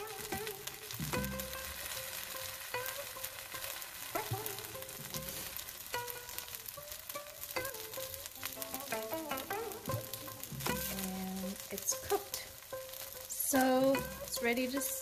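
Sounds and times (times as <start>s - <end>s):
pancake sizzling in oil: 0.0s - 15.0s.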